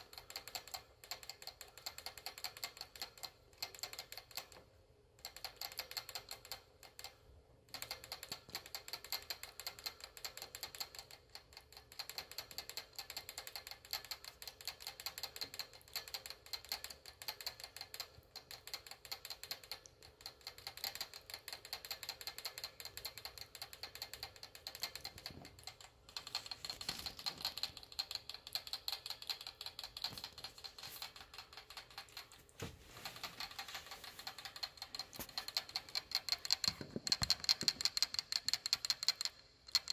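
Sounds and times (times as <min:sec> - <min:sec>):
rat lapping at water bottle spout: 0:05.2 - 0:39.9.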